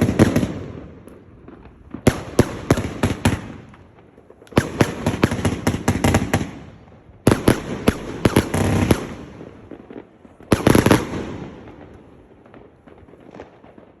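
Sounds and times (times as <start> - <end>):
fireworks bangs: 0.0 - 14.0
faint patter of small pops: 0.1 - 6.4, 7.5 - 14.0.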